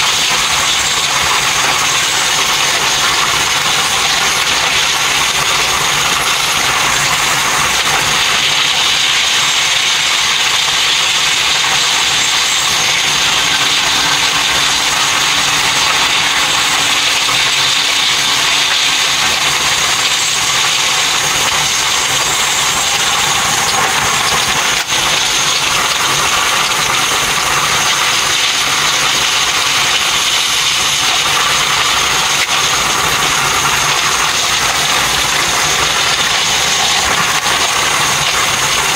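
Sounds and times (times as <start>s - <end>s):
train rushing at speed: 0.0s - 38.9s.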